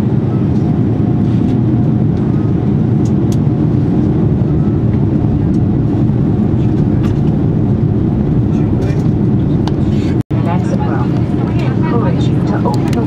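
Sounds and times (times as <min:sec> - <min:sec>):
airliner cabin engine roar: 0:00.0 - 0:13.0.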